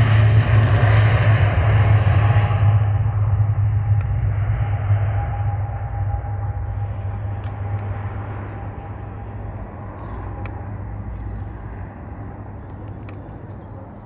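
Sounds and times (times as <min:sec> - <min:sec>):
jet engine whine: 0:00.0 - 0:14.0
jet engines rumbling: 0:00.0 - 0:14.0.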